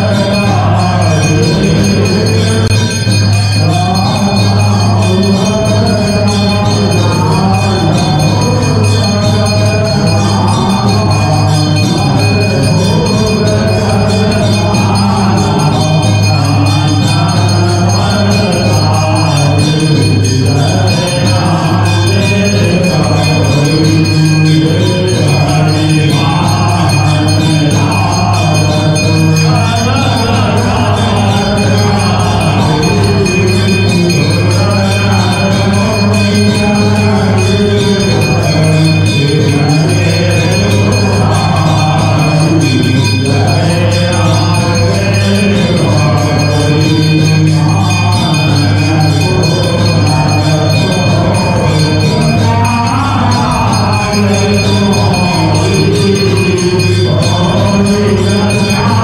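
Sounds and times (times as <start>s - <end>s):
bells ringing: 0.0s - 59.0s
low drone: 0.0s - 59.0s
man singing hymn over loudspeaker: 0.0s - 59.0s.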